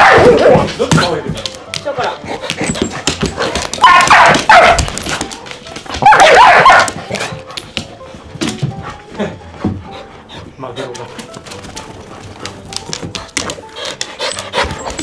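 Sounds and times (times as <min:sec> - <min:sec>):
dogs barking and yipping: 0:00.0 - 0:15.0
scuffling and thumping: 0:00.0 - 0:15.0.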